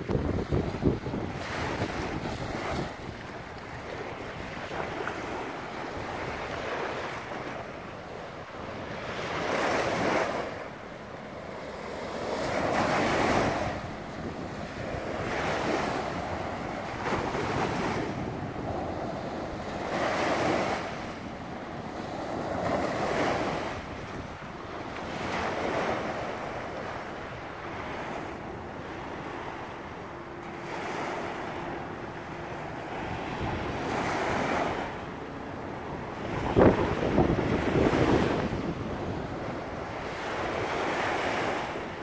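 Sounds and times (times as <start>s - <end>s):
wind buffeting microphone: 0.0s - 30.1s, 31.6s - 42.0s
small waves breaking on a beach: 0.0s - 42.0s.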